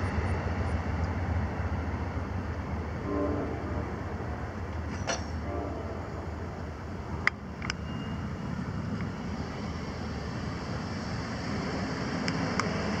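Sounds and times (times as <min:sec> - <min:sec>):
low wind: 0:00.0 - 0:13.0
road noise: 0:00.0 - 0:13.0.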